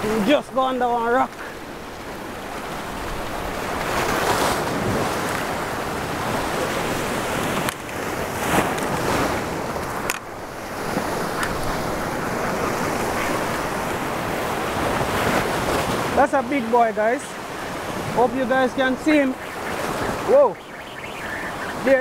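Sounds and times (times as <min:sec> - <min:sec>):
surf breaking on rocks: 0:03.6 - 0:22.0.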